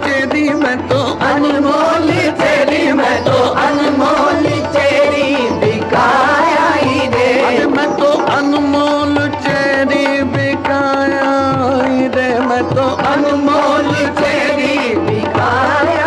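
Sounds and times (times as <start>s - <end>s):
harmonium sustained melody: 0.0s - 16.0s
tabla rhythm: 0.0s - 16.0s.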